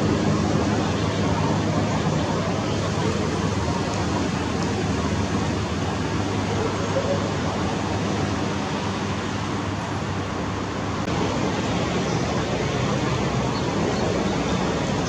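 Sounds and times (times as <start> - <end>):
helicopter rotor and engine: 0.0 - 15.0.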